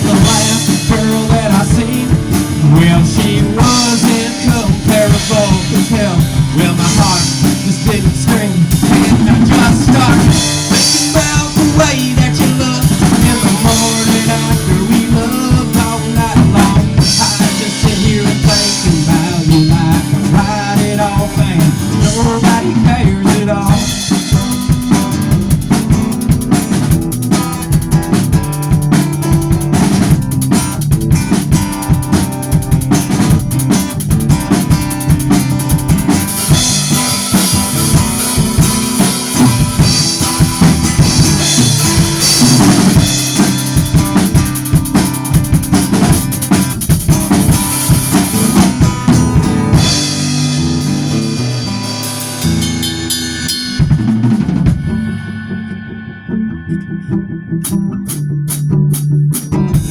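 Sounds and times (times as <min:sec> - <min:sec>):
country song instrumental: 0:00.0 - 0:59.9
drum kit beat: 0:00.0 - 0:59.9.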